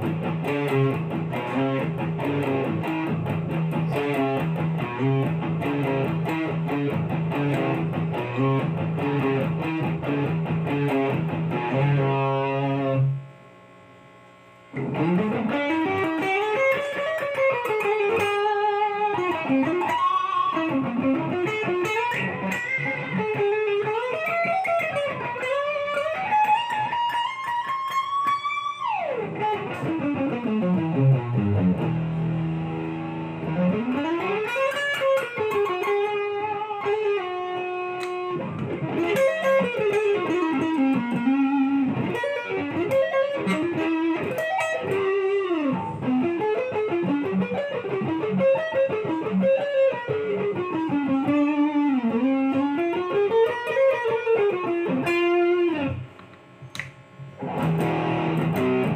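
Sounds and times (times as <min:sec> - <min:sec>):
electric guitar lead lines: 0:00.0 - 0:58.9.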